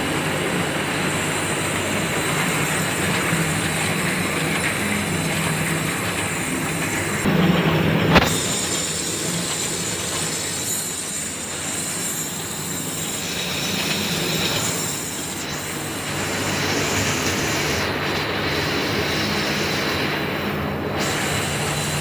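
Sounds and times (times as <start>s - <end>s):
production line machinery: 0.0s - 22.0s.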